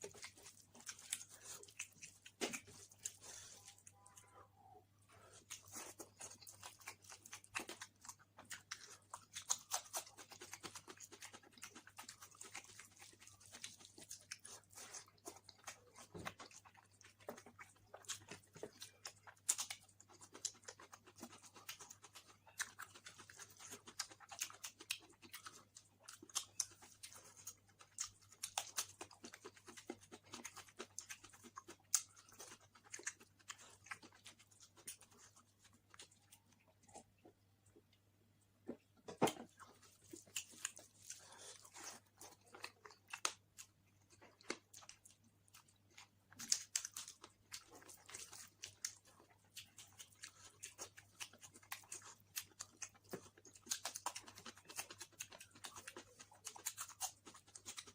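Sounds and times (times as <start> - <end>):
chewing and mouth smacking: 0.0 - 4.2, 5.1 - 38.0, 38.6 - 57.9
faint low hum: 0.0 - 57.9.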